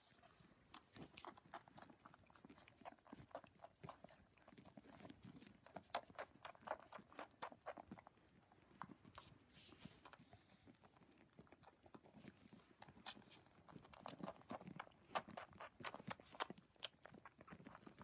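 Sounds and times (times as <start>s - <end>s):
puppies suckling: 0.0s - 18.0s.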